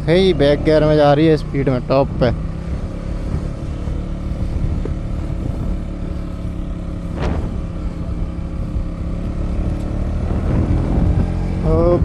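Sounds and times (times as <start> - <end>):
motorcycle engine under load: 0.0 - 12.0
road and wind noise: 0.0 - 12.0.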